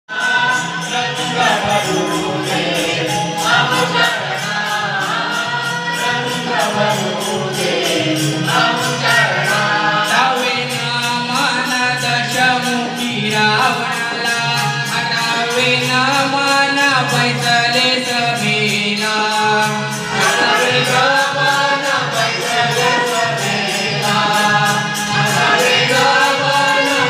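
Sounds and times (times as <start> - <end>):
group singing folk song: 0.1 - 27.0
percussion steady beat: 0.1 - 27.0.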